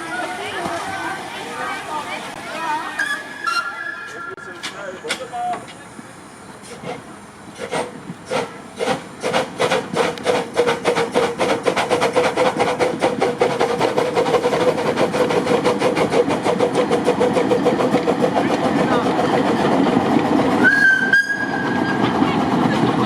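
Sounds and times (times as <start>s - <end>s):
steam locomotive exhaust chuffs: 3.0s - 23.0s.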